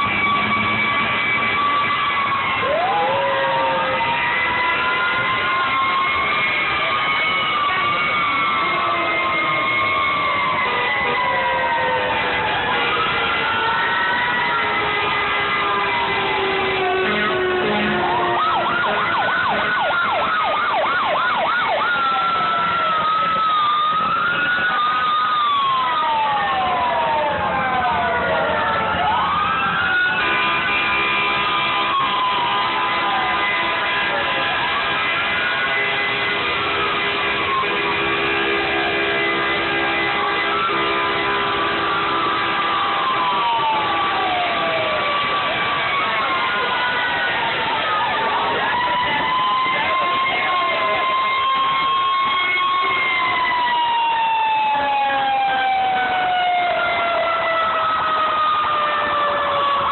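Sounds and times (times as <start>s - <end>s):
fire truck siren: 0.0s - 59.9s.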